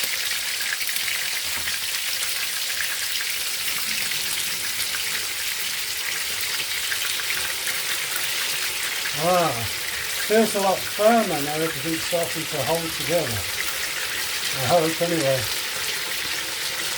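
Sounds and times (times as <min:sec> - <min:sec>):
sausages sizzling in a pan: 0:00.0 - 0:16.9.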